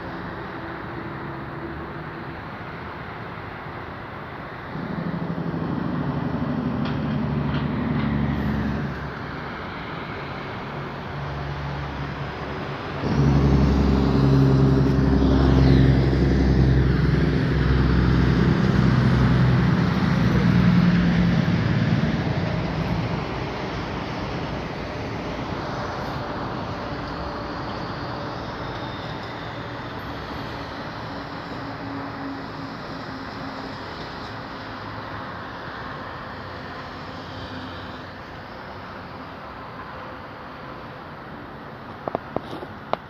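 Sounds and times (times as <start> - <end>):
vehicle engines on road: 0.0 - 43.0.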